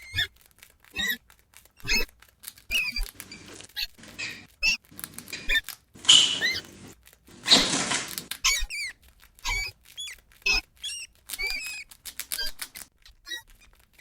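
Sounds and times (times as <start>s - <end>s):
rat squeaking: 0.0s - 14.0s.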